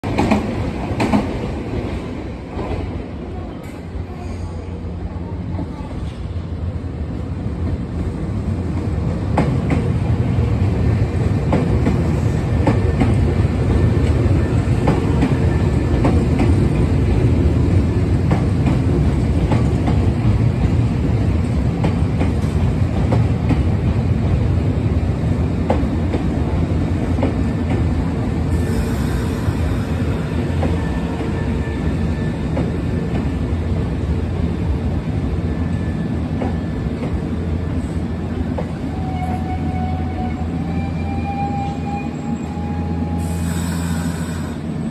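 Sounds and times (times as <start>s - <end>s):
train wheels rumbling: 0.0s - 44.9s.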